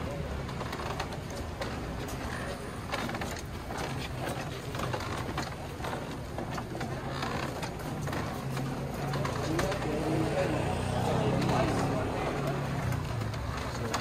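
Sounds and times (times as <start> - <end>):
murmur of people: 0.0 - 14.0
wooden palanquin rattling and knocking: 0.0 - 14.0.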